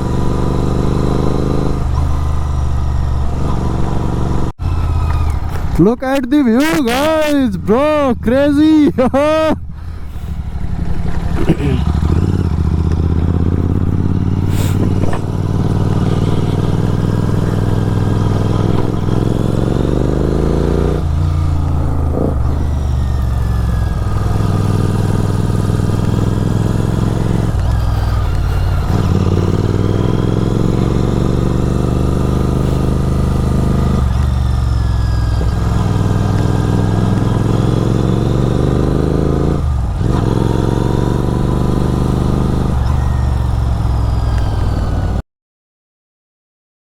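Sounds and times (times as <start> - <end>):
motorcycle accelerating and shifting gears: 0.0 - 45.2.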